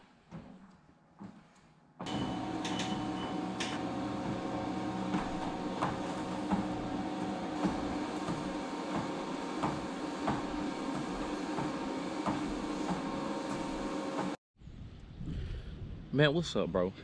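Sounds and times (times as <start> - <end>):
treadmill motor humming: 0.0 - 14.4
footfalls on treadmill belt: 0.1 - 14.4.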